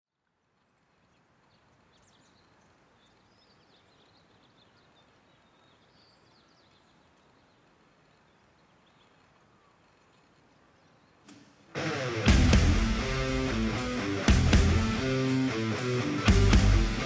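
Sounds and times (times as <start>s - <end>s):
small birds chirping faintly: 0.1s - 17.0s
steady low hiss: 0.1s - 17.0s.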